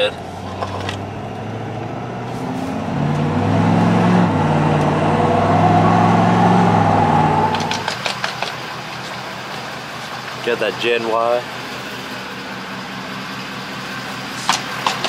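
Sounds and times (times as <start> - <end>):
diesel engine revving from cab: 0.0 - 15.0.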